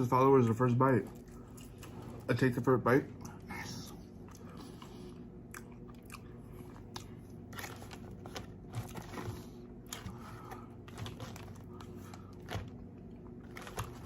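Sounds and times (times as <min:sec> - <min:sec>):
low steady hum: 0:00.0 - 0:14.0
person chewing food: 0:01.0 - 0:02.3, 0:03.1 - 0:14.0.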